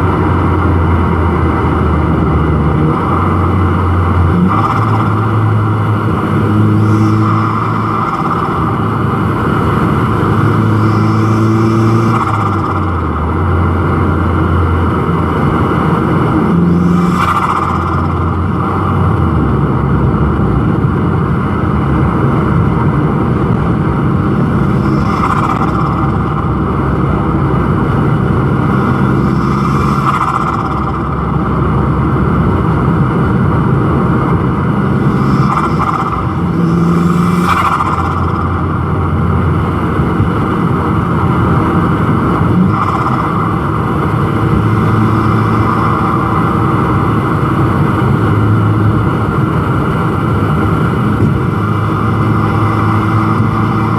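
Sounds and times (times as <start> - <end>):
turbocharged car engine accelerating: 0.0 - 53.9.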